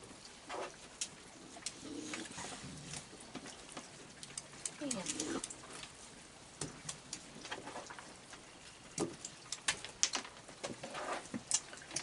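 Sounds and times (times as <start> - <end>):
rain falling: 0.0 - 12.0
irregular drips and taps: 0.1 - 12.0.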